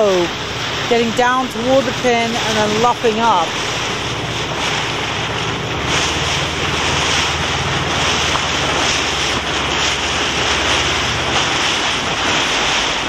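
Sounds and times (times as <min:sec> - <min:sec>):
motorboat engine humming: 0:00.0 - 0:13.0
wind on microphone: 0:00.0 - 0:13.0.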